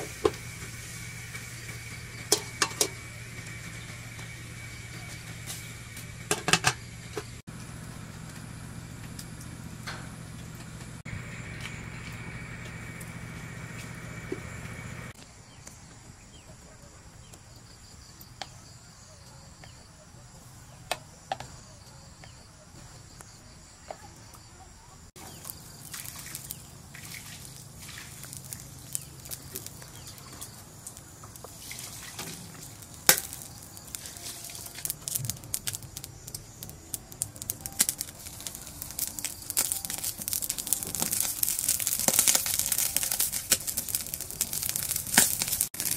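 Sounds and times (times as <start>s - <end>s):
charcoal fire crackling: 0.0s - 23.9s, 25.1s - 45.9s.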